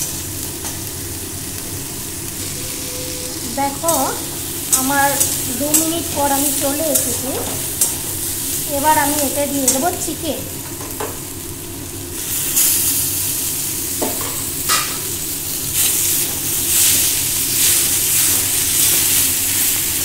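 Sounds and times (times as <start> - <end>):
chicken sizzling in a wok: 0.0 - 20.0.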